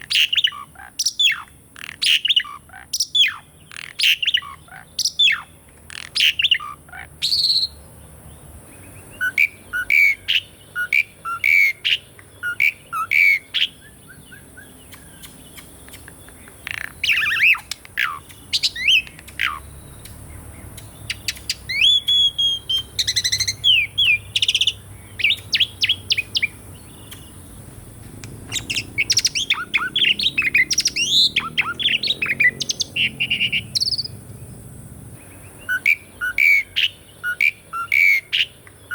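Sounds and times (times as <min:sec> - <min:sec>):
starling singing: 0:00.0 - 0:07.9, 0:08.7 - 0:34.2, 0:35.2 - 0:38.9.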